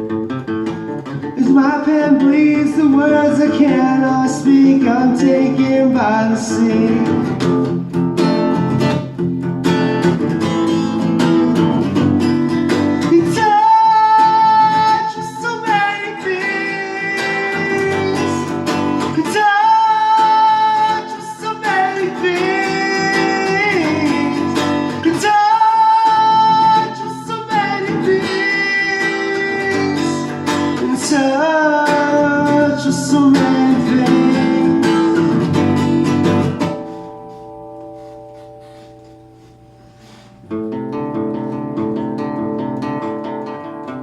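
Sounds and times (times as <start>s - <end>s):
strummed acoustic guitar: 0.0s - 44.0s.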